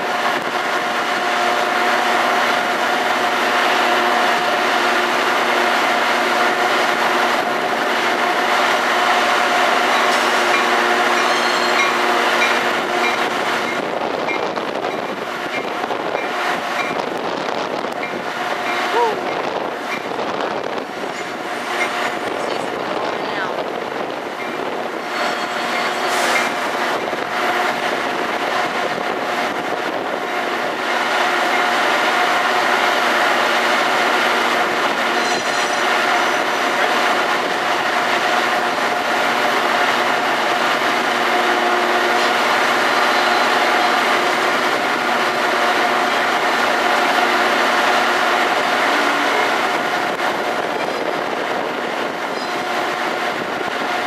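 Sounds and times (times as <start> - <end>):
train rail noise with whine: 0.0 - 54.0.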